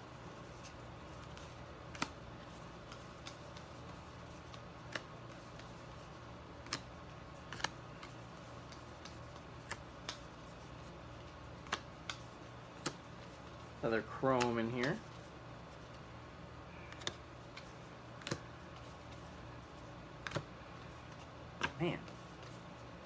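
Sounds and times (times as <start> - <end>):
low steady hum: 0.0 - 23.0
cards clicking and tapping: 0.5 - 15.2, 16.8 - 22.6.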